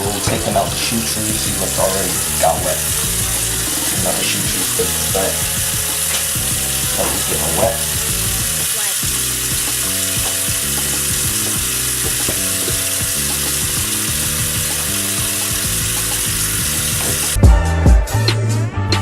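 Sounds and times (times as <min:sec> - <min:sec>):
wet hiss of sneaker cleaning: 0:00.0 - 0:17.4
background music: 0:00.0 - 0:19.0.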